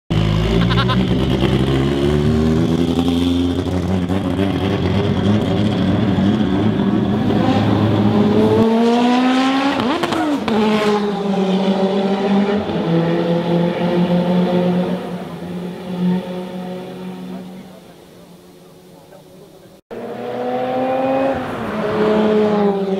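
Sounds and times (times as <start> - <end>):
race car engine accelerating: 0.1 - 22.9.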